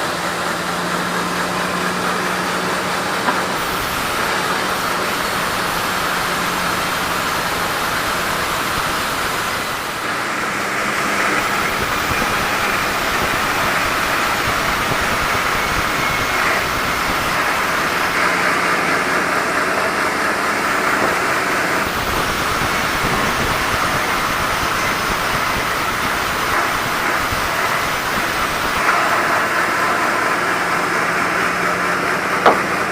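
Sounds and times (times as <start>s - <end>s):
sawmill saw cutting timber: 0.0s - 32.9s.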